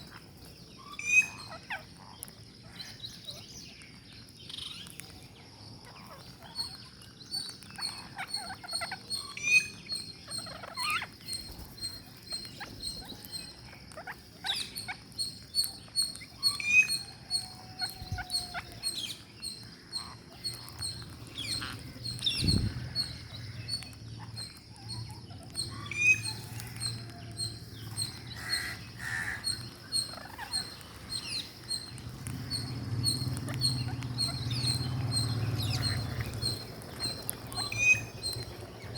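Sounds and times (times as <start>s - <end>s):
parrots squawking: 0.8s - 1.9s, 7.8s - 15.4s, 16.1s - 38.9s.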